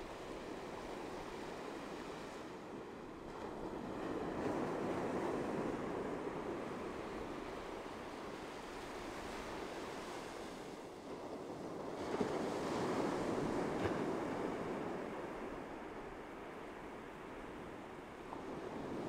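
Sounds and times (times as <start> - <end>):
ocean waves: 0.0 - 19.0.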